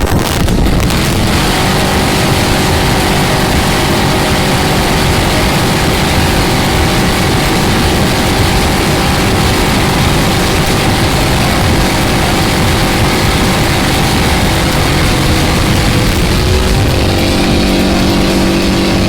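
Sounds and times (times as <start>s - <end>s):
boat engine running: 0.0s - 19.0s
jet drive whine: 0.0s - 19.0s.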